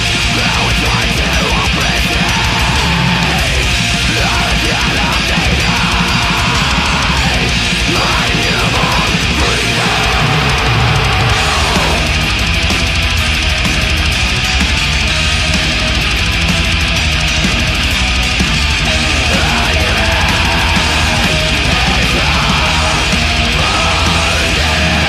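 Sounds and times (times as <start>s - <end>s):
heavy metal music: 0.0s - 25.0s.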